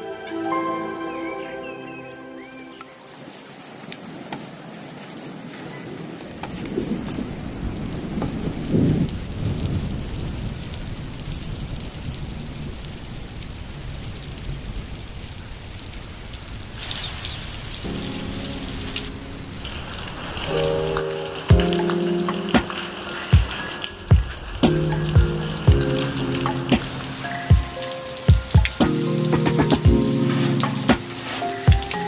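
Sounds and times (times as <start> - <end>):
steady rain falling: 2.2 - 32.0
thunder rumbling: 5.2 - 32.0.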